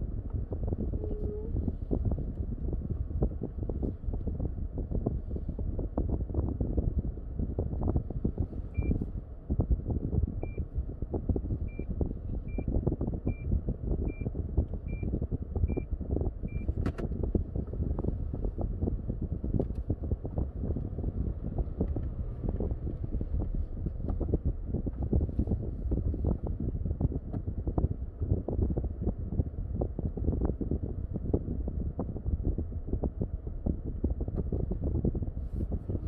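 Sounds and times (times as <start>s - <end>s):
car road and wind rumble: 0.0s - 36.0s.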